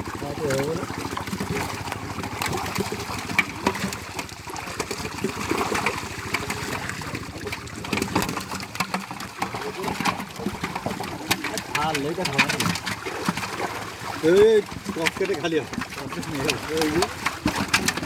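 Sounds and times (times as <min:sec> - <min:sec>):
small engine running: 0:00.0 - 0:18.0
water splashing: 0:00.0 - 0:18.0.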